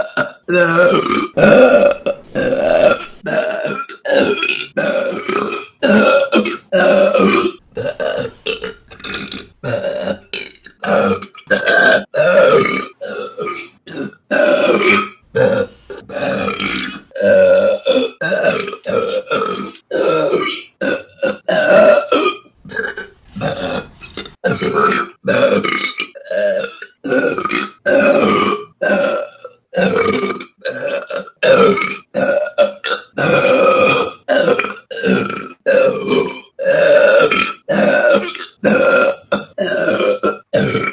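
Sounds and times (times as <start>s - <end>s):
woman burping: 0.0s - 40.9s.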